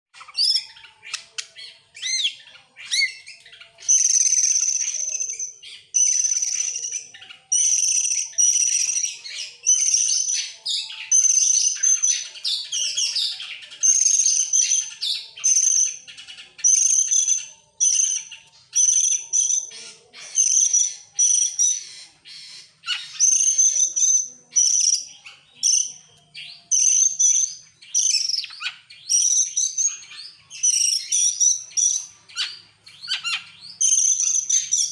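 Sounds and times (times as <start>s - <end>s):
magpie-robin singing: 0.1s - 34.9s.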